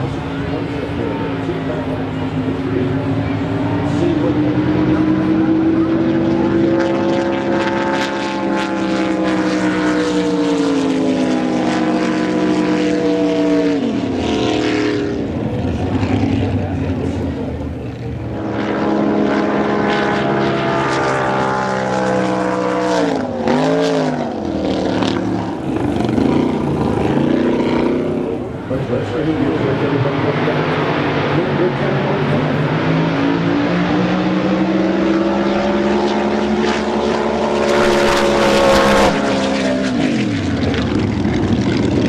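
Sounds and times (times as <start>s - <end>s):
drag boat engine running: 0.0s - 42.0s.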